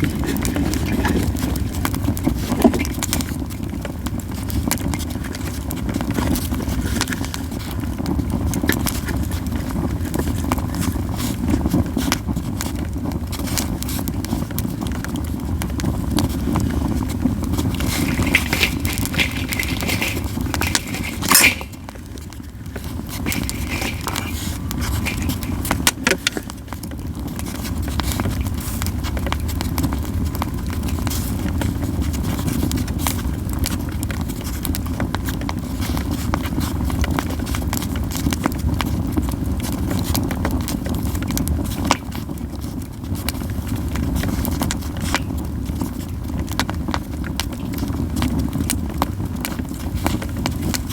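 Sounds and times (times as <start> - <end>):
campfire crackling and popping: 0.0 - 50.9
fire low rumble: 0.0 - 50.9.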